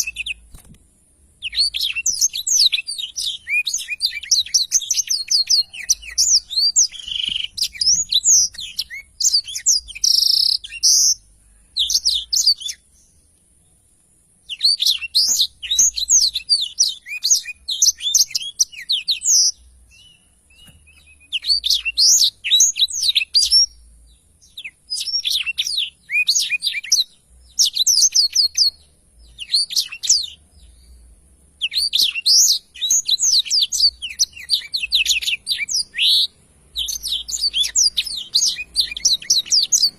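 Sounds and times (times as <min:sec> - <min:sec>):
canary singing: 0:00.0 - 0:00.7, 0:01.3 - 0:13.2, 0:14.4 - 0:39.9.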